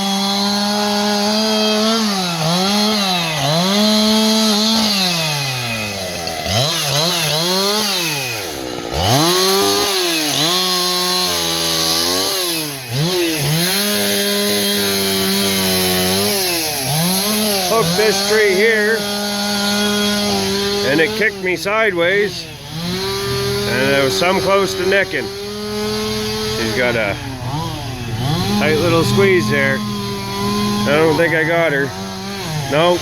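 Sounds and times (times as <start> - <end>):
chainsaw revving: 0.0 - 33.0.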